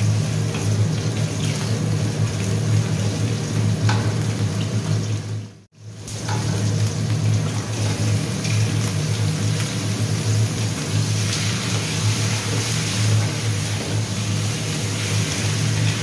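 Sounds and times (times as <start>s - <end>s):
chicken livers sizzling in a wok: 0.0s - 16.0s.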